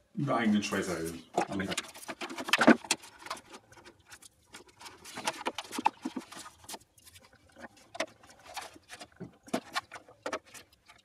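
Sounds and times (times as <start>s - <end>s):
plastic helmet clicking and rattling: 1.3s - 11.0s.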